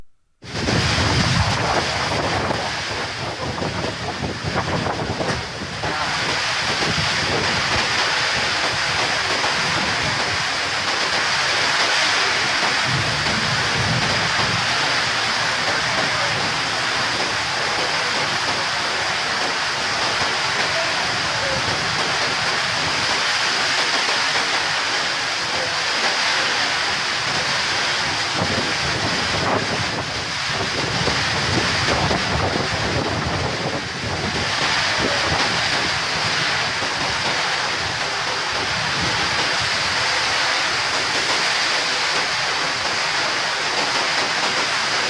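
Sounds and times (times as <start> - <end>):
falling rain: 0.4 - 45.0
creek water rushing: 0.5 - 45.0.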